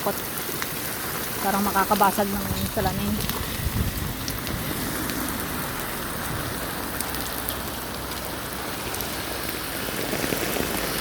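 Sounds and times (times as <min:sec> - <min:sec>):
hail and rain pelting: 0:00.0 - 0:11.0
hailstones ticking on hard surfaces: 0:00.0 - 0:11.0.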